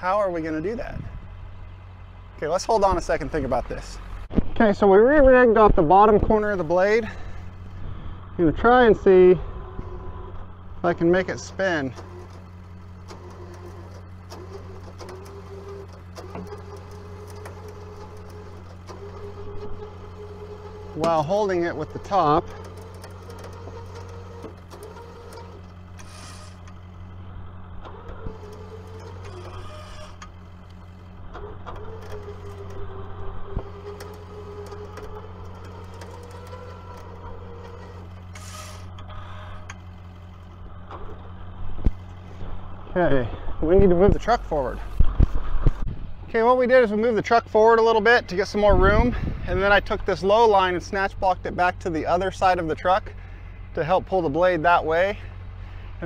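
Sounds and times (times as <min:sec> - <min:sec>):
truck engine idling: 0:00.0 - 0:56.0
winch whirring: 0:00.0 - 0:56.0.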